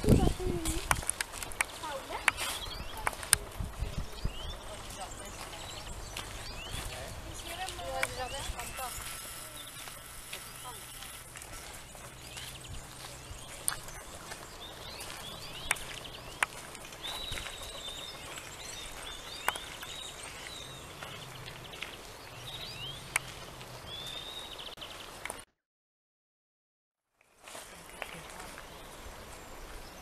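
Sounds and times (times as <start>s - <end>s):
small birds chirping and trilling: 0.0s - 25.4s, 27.4s - 30.0s.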